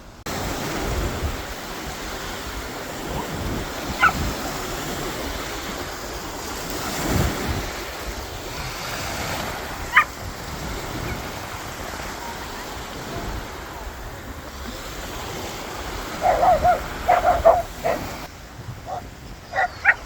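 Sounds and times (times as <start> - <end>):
wind on microphone: 0.0 - 20.0
sea water washing: 0.3 - 20.0.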